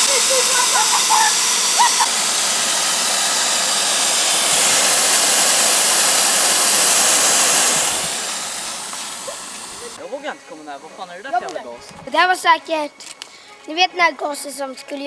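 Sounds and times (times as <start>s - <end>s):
refrigerant gas hissing: 0.0s - 13.6s.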